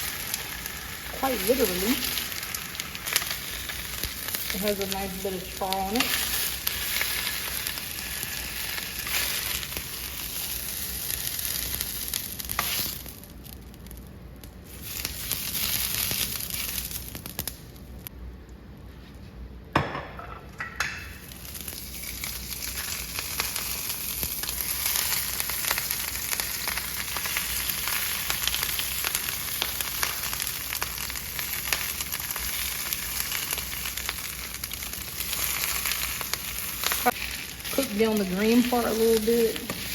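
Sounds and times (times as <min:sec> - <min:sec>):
vegetables sizzling in a pan: 0:00.0 - 0:14.0, 0:14.6 - 0:17.6, 0:21.2 - 0:39.9.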